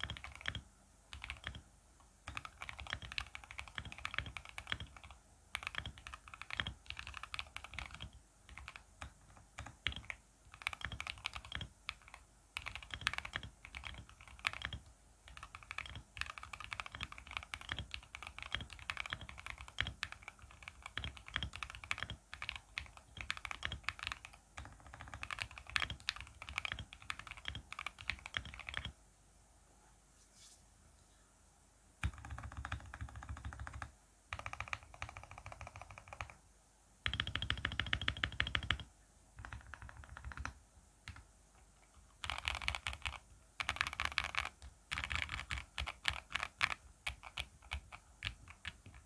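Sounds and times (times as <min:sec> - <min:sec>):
mechanical keyboard typing: 0:00.0 - 0:01.6, 0:02.2 - 0:29.0, 0:32.0 - 0:36.4, 0:37.0 - 0:41.2, 0:41.8 - 0:49.0.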